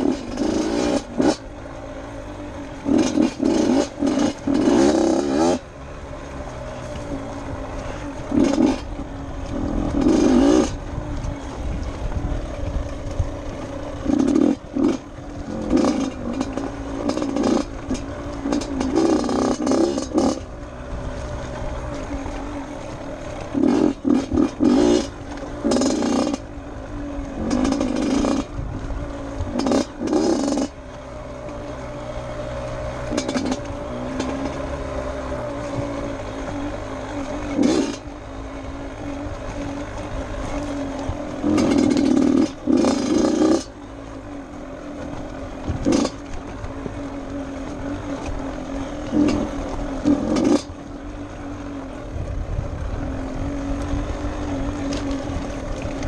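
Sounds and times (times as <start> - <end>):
dirt bike engine revving: 0.0 - 11.6, 12.4 - 52.0.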